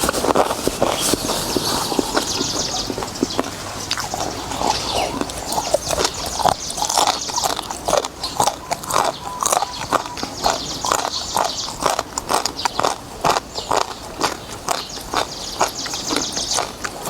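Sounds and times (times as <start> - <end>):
person chewing noodles: 0.0 - 17.0.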